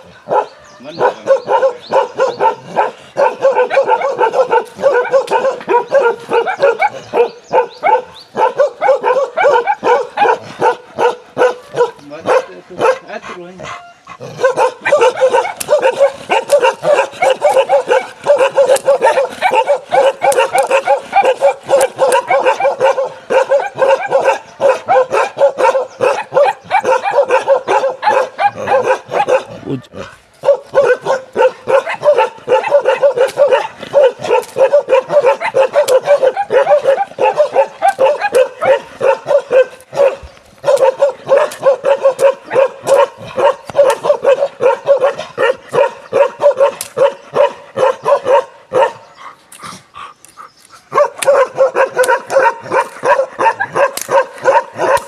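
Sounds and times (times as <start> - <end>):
dogs barking rapidly: 0.0 - 55.0.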